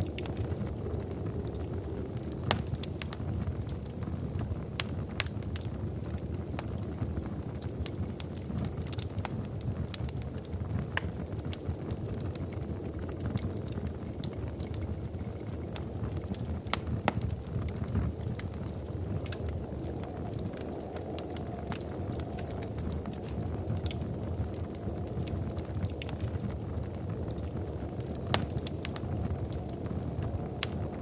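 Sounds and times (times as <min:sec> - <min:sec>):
low rumble of burning: 0:00.0 - 0:31.0
wood fire crackling and popping: 0:00.0 - 0:31.0.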